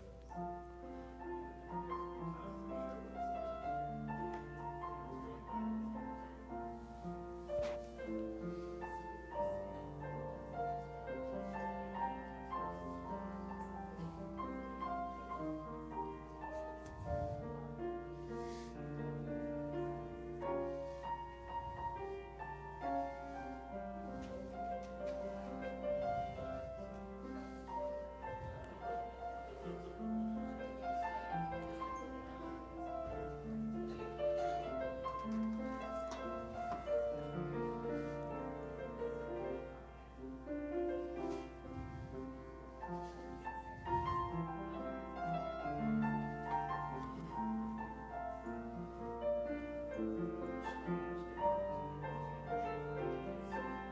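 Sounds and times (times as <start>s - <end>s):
slow solo piano piece: 0.0s - 53.9s.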